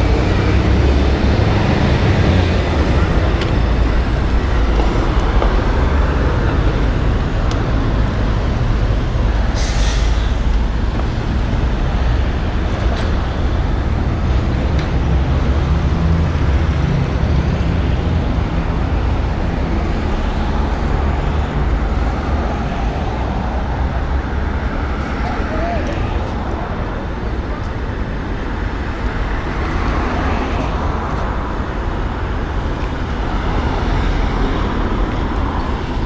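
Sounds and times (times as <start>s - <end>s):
road traffic: 0.0s - 36.0s.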